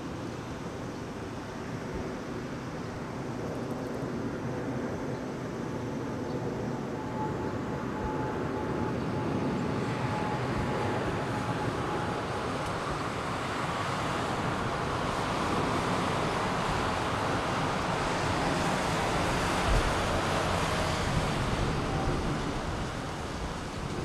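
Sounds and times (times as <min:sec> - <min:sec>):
jet engines rushing hum: 0:00.0 - 0:24.0.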